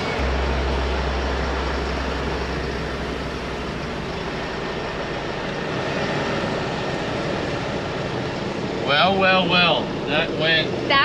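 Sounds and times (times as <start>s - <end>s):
vehicle road noise: 0.0s - 11.0s.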